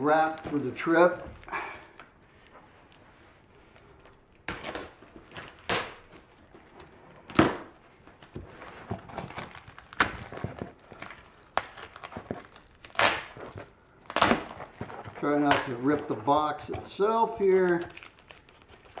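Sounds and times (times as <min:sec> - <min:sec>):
plastic wrap crinkling and ripping: 0:00.0 - 0:19.0.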